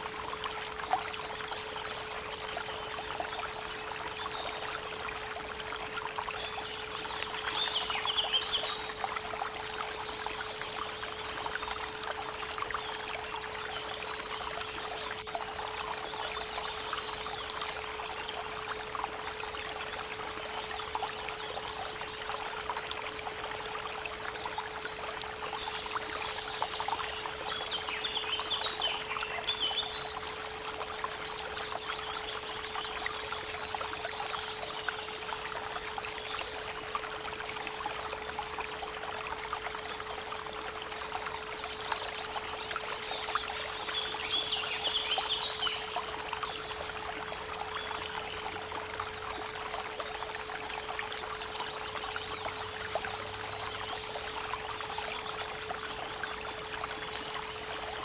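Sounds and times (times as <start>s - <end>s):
creek water babbling: 0.0s - 58.0s
songbirds chirping: 0.0s - 58.0s.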